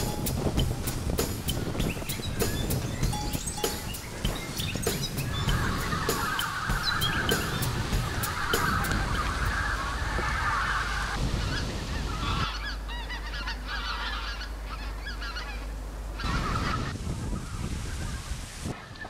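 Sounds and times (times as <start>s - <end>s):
geese honking: 0.0s - 17.4s.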